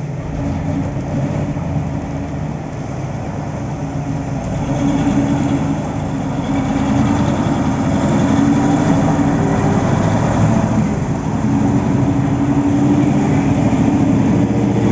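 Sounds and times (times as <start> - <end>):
heavy machinery engine running: 0.0 - 14.9.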